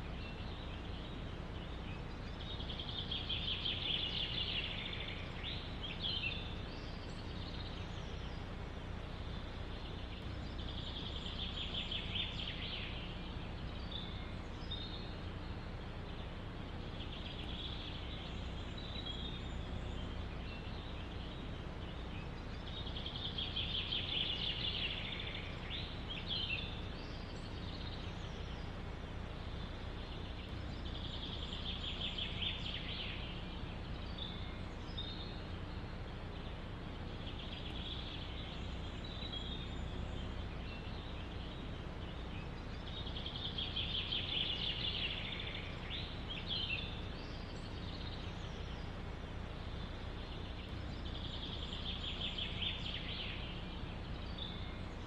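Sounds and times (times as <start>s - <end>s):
low background rumble: 0.0s - 55.0s
songbird trilling and chirping: 0.0s - 55.0s.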